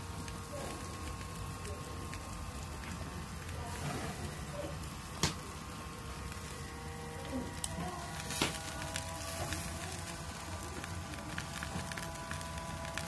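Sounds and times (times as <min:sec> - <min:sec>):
faint sizzling hiss: 0:00.0 - 0:13.0
low steady hum: 0:00.0 - 0:13.0
wooden skewers clicking on grill: 0:00.3 - 0:05.6, 0:07.2 - 0:13.0.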